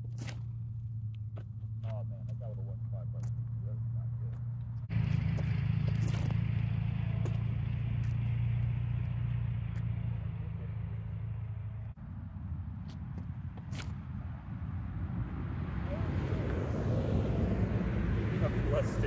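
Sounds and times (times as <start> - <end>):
low hum: 0.0 - 19.0
outdoor rumble with hiss: 0.0 - 19.0.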